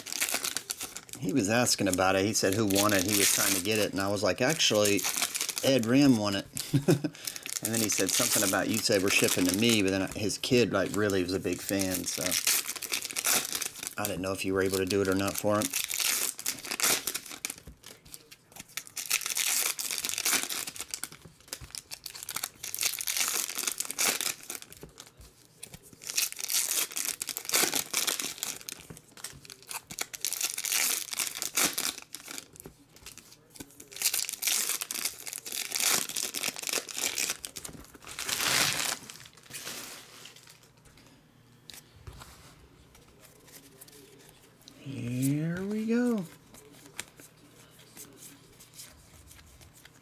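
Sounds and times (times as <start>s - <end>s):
foil wrappers tearing and crinkling: 0.0s - 40.8s.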